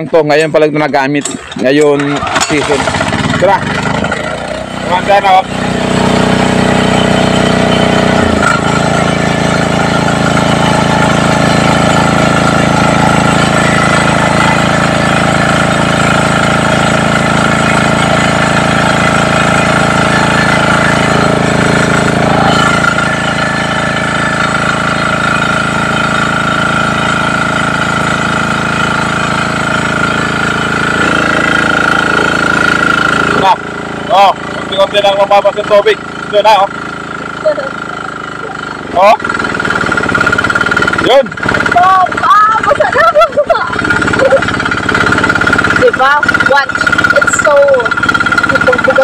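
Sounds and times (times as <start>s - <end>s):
small diesel pump engine running: 0.0s - 49.0s.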